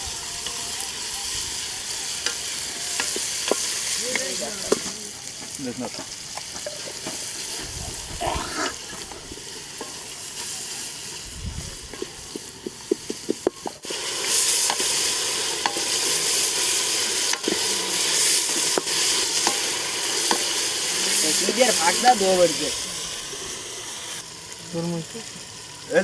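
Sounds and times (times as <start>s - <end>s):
curry sizzling in a pan: 0.0s - 26.0s.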